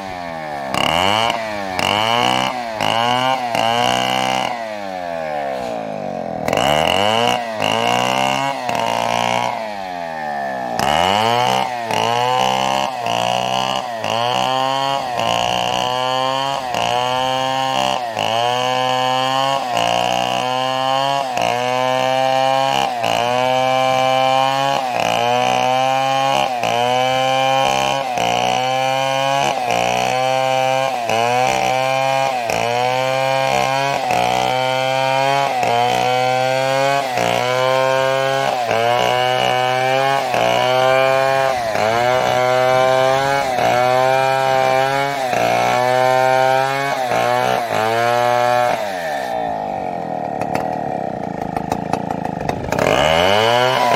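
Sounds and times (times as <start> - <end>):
chainsaw cutting wood revving: 0.0 - 53.9.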